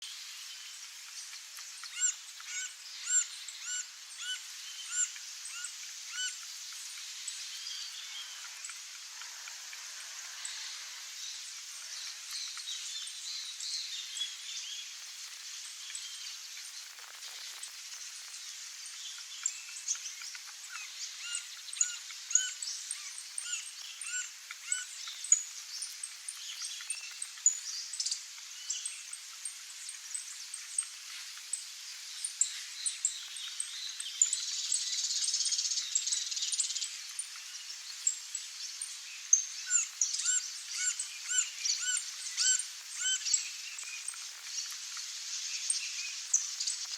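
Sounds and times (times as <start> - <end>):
wild birds chirping: 0.6 - 46.9.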